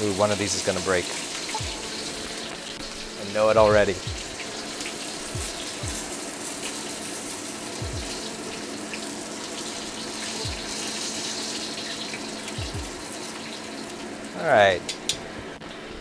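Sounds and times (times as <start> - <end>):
meatballs sizzling in oil: 0.0 - 14.5.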